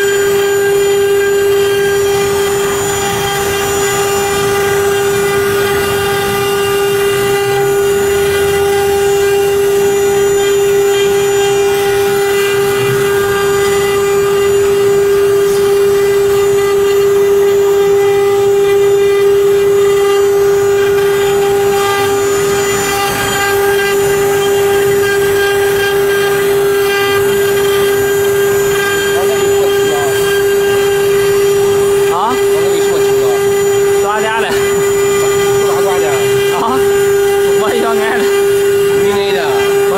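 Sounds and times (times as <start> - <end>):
router spindles whining: 0.0 - 39.9.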